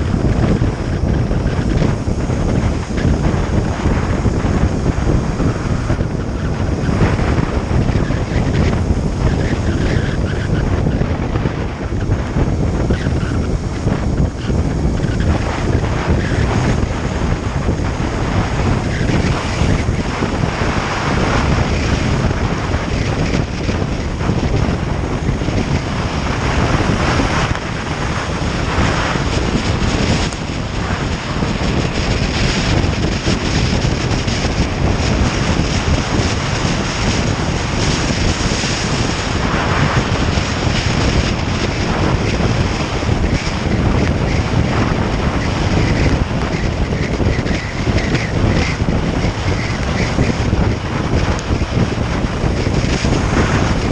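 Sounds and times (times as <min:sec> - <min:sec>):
motorcycle road noise: 0:00.0 - 0:53.9
wind buffeting microphone: 0:00.0 - 0:53.9.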